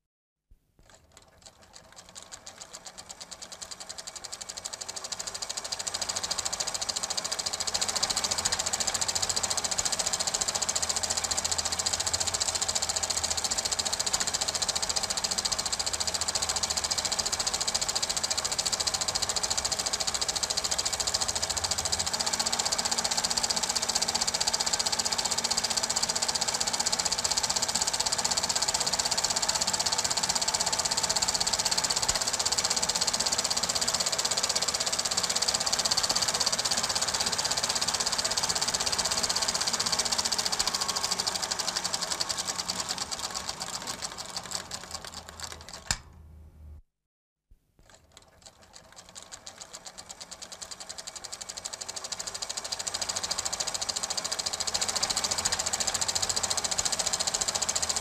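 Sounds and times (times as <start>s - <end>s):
film projector clattering: 0.8s - 46.1s, 47.8s - 58.0s.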